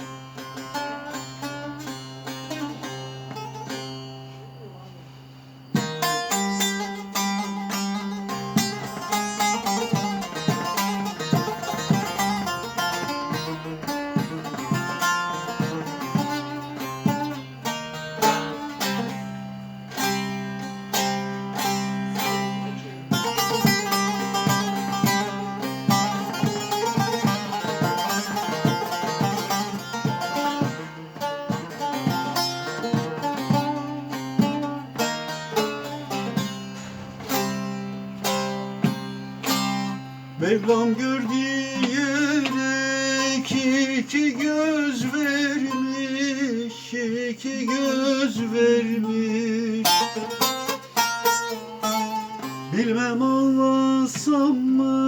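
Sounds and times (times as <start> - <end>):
plucked string folk melody: 0.0 - 55.0.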